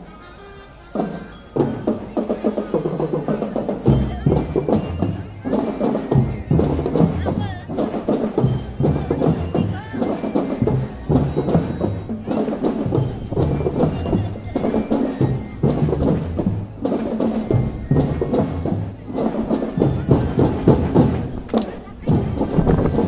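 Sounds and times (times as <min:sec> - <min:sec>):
marching drum band playing: 0:00.9 - 0:23.0.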